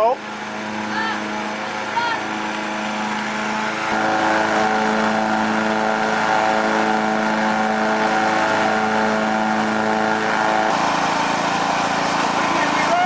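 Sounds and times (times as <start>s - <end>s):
riding lawnmower engine running: 0.0s - 13.0s.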